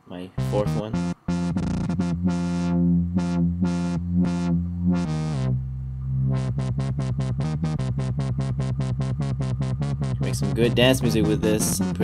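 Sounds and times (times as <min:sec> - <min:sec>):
wobble bass synthesizer: 0:00.4 - 0:12.0.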